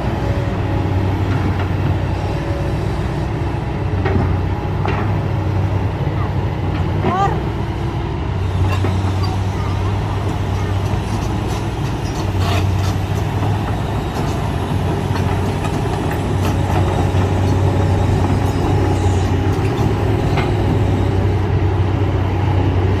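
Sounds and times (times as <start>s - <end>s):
excavator diesel engine droning: 0.0s - 23.0s.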